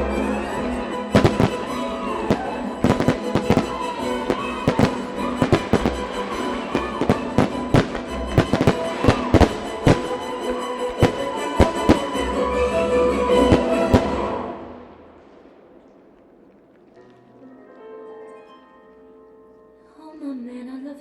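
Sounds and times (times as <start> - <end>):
music: 0.0 - 14.8, 17.1 - 21.0
fireworks bangs: 0.0 - 17.9.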